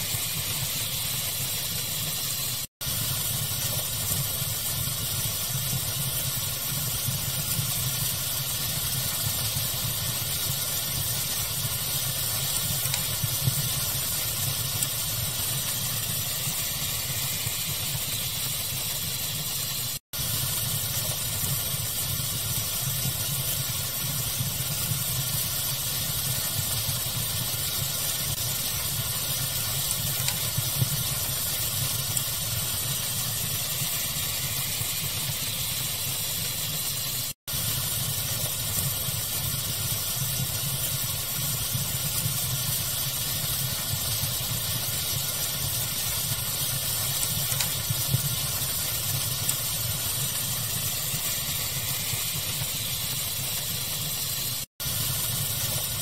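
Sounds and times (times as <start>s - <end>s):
fire crackling: 0.0s - 56.0s
steady pink noise hiss: 0.0s - 56.0s.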